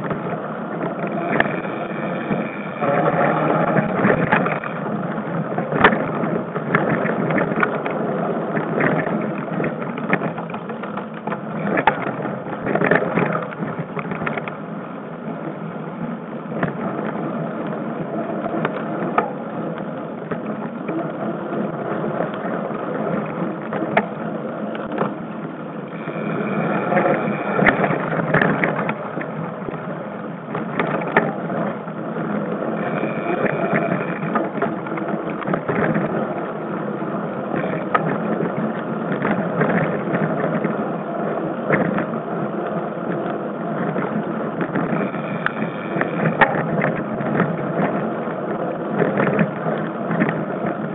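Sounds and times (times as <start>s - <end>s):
bike clatter and rattle: 0.0s - 50.9s
wind noise: 0.0s - 50.9s.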